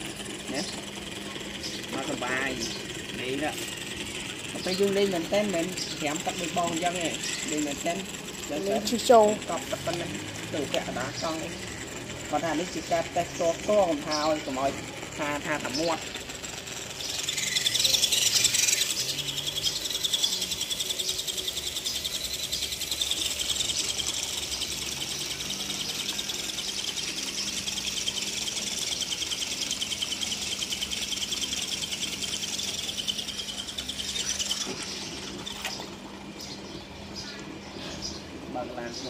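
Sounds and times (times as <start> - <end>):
wheels churning water: 0.0 - 36.8
electric motor whirring: 0.0 - 38.2.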